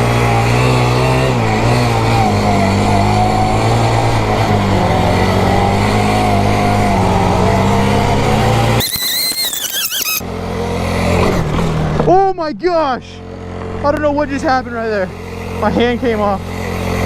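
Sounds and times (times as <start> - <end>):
mini quad engine running: 0.0 - 12.0, 13.2 - 17.0.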